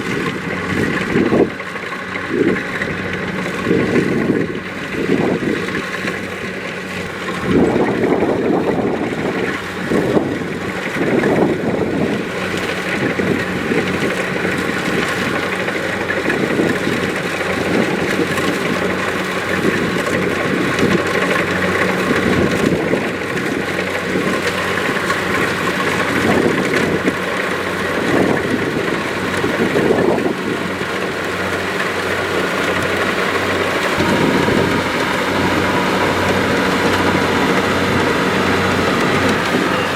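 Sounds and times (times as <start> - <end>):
combine harvester engine and threshing: 0.0 - 39.9.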